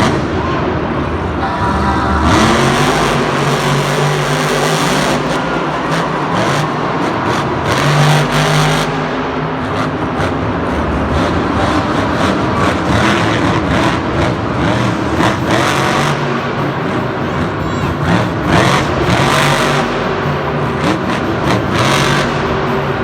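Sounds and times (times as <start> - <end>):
noisy background: 0.0 - 23.0
truck engine revving: 0.0 - 23.0.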